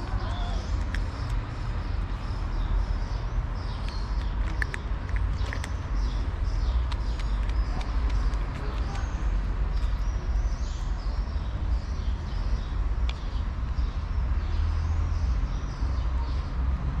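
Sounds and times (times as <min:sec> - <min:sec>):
steady low rumble: 0:00.0 - 0:14.3
small birds chirping: 0:00.0 - 0:16.8.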